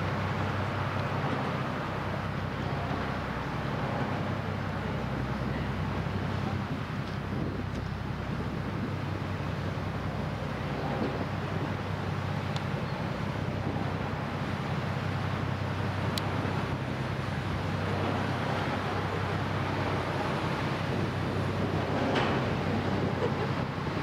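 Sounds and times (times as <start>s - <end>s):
large ship engine drone: 0.0s - 24.0s
water noise: 0.0s - 24.0s
wind: 0.0s - 24.0s.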